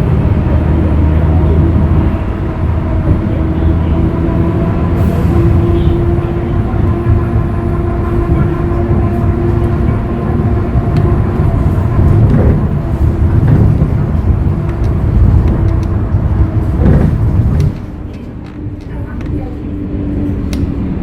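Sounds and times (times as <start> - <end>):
bus engine rumbling: 0.0 - 21.0.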